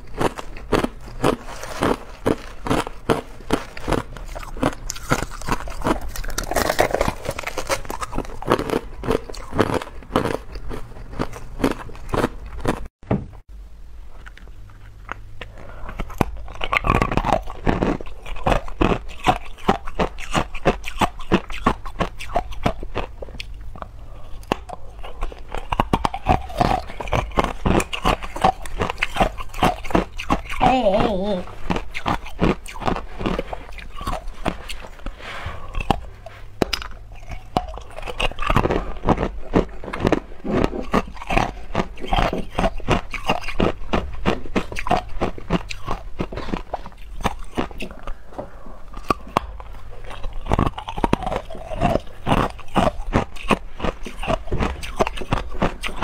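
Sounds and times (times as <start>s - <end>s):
ice crunching while chewed: 0.0s - 12.9s, 14.2s - 56.0s.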